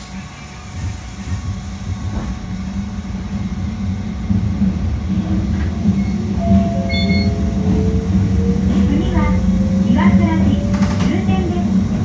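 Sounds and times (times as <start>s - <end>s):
train wheels rumbling on bridge: 0.0s - 12.0s.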